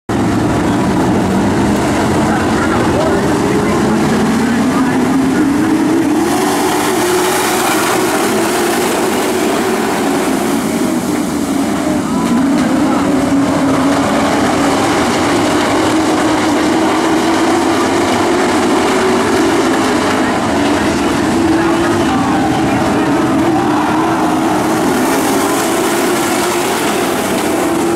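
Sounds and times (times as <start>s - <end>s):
race truck engines: 0.1s - 27.9s.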